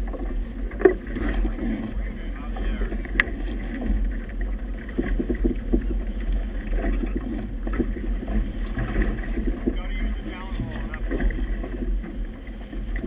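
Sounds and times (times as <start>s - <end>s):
water slapping against hull: 0.0s - 13.0s.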